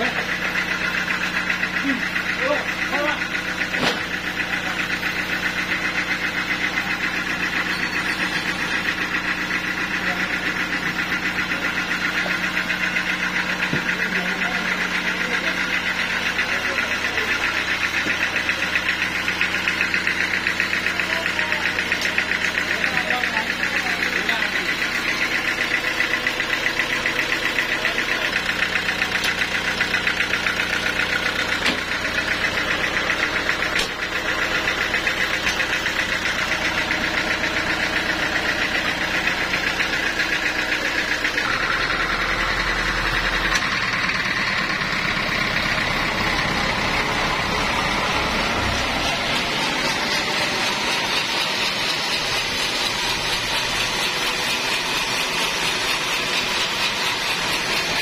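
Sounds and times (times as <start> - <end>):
stationary engine knocking: 0.0 - 58.0.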